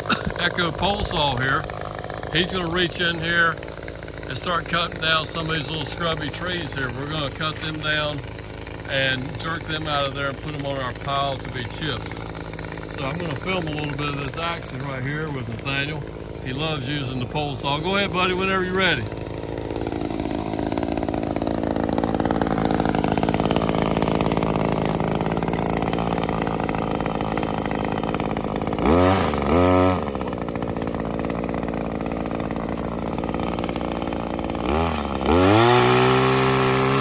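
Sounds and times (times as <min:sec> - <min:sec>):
pole saw engine idling and revving: 0:00.0 - 0:37.0.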